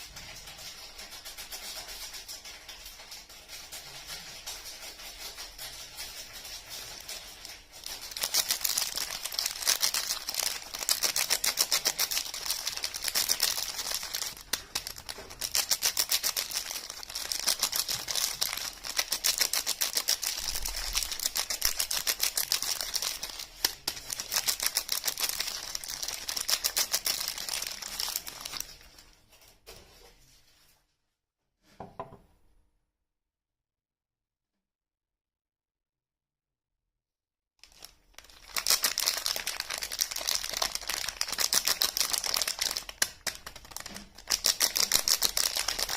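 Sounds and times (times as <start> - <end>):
wrapping crinkling and tearing: 0.0 - 29.5, 37.6 - 45.9.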